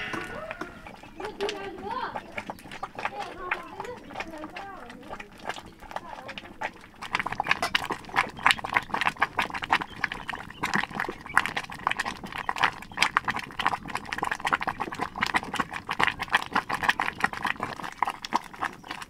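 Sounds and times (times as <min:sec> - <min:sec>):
fire popping and crackling: 0:00.0 - 0:19.0
pot boiling: 0:00.0 - 0:19.0.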